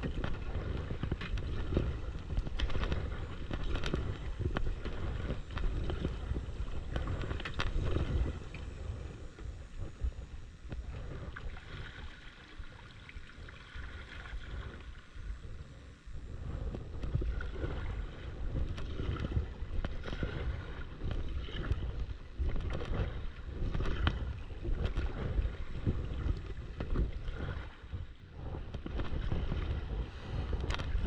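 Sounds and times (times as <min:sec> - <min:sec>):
paddle splashing in water: 0:00.0 - 0:09.1, 0:10.8 - 0:15.1, 0:17.1 - 0:31.0
wind buffeting microphone: 0:00.0 - 0:31.0.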